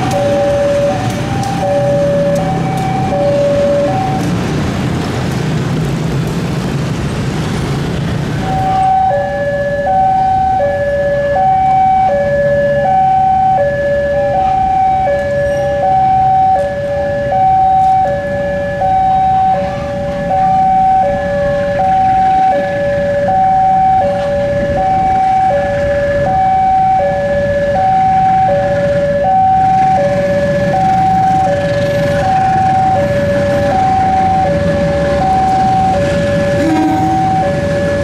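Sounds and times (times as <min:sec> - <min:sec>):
two-tone level crossing alarm: 0:00.0 - 0:04.4, 0:08.4 - 0:38.0
engine rumble: 0:00.0 - 0:38.0.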